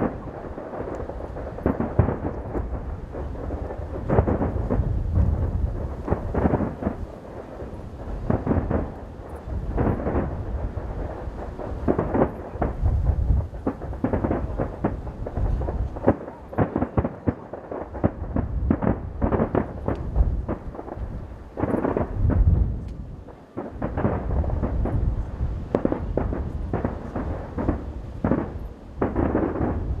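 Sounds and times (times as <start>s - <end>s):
continuous low rumble: 0.0s - 30.0s
firework booms and crackles: 0.0s - 30.0s.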